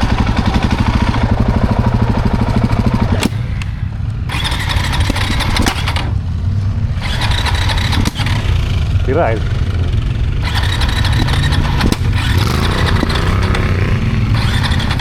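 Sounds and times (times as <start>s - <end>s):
engine cranking on starter: 0.0s - 15.0s.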